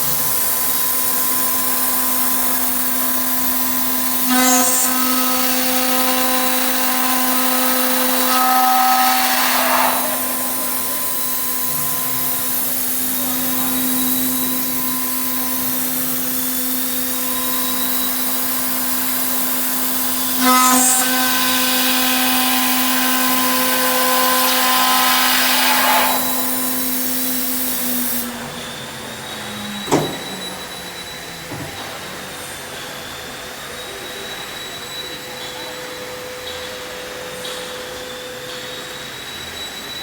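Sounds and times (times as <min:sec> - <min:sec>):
cutter ringing on metal: 0:00.0 - 0:40.0
milling machine spindle whine: 0:00.0 - 0:40.0.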